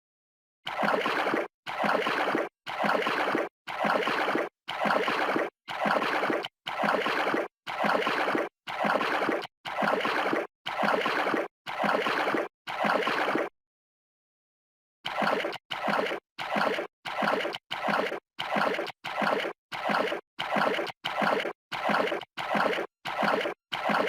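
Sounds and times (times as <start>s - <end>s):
water sloshing and gurgling: 0.7s - 13.5s, 15.1s - 24.0s.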